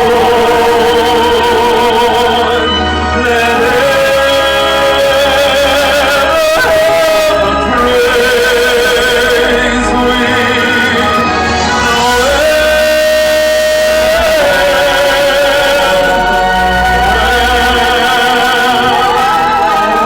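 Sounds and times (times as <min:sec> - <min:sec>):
low musical backing: 0:00.0 - 0:20.0
person singing with vibrato: 0:00.0 - 0:20.0.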